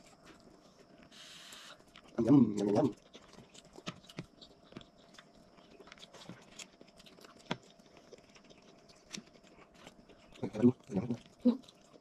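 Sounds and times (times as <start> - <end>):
quiet chewing: 0.0 - 12.0
small clicks while eating: 1.8 - 12.0.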